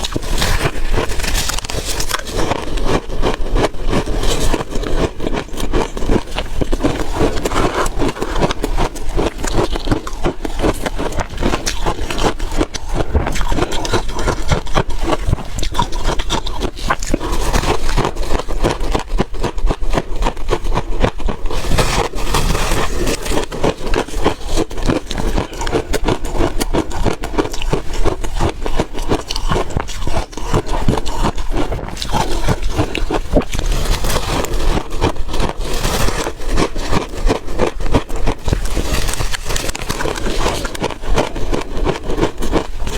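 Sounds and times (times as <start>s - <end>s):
ice crunching and cracking: 0.0s - 42.9s.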